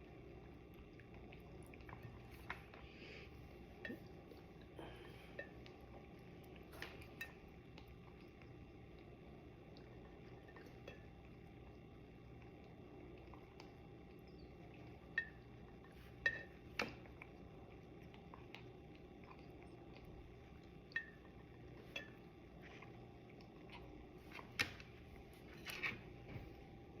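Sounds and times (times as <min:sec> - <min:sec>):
soft wet lapping: 0:00.0 - 0:27.0.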